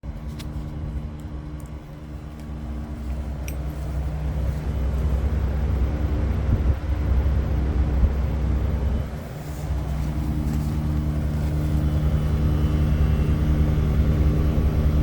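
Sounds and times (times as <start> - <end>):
heat pump buzzing hum: 0.0 - 15.0.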